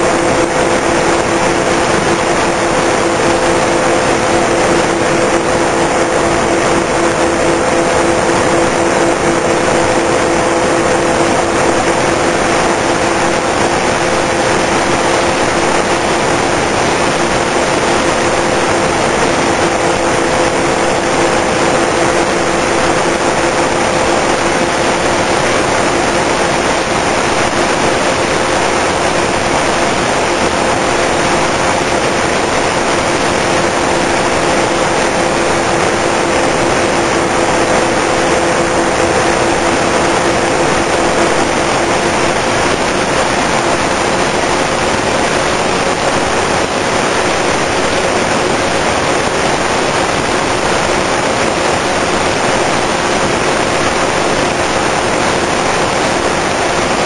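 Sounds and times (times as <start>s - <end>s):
electric motors and propellers whining: 0.0s - 57.0s
wind rushing on microphone: 0.0s - 57.0s.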